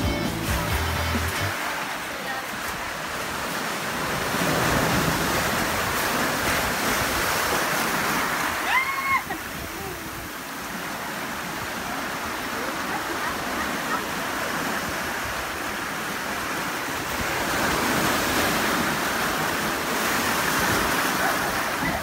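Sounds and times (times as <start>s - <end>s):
sea surf breaking on rocks: 1.2s - 22.0s.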